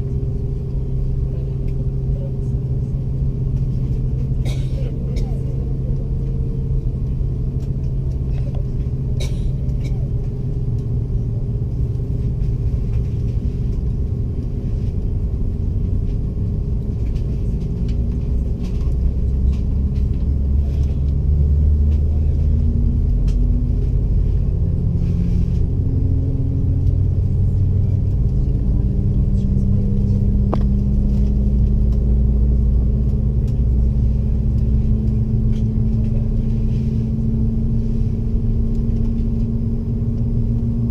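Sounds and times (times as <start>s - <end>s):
airliner cabin rumble: 0.0s - 40.9s
steady humming tones: 0.0s - 40.9s.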